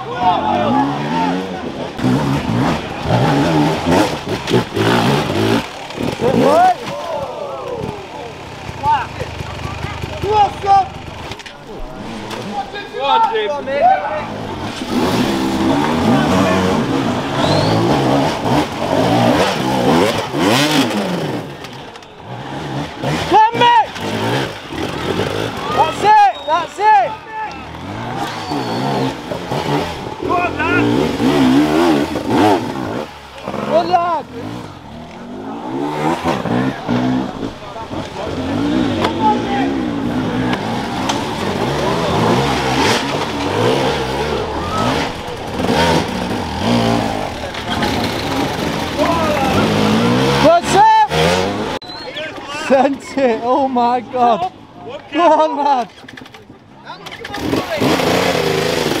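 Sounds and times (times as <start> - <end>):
dirt bike engine revving: 0.0 - 54.0, 55.3 - 59.0.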